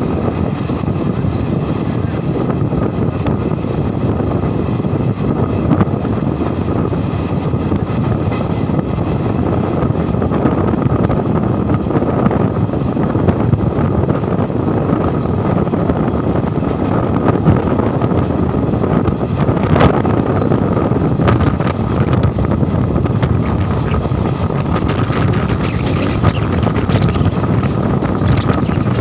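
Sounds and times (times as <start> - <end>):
moving train rumble: 0.0 - 29.0
wind rushing on microphone: 0.0 - 29.0.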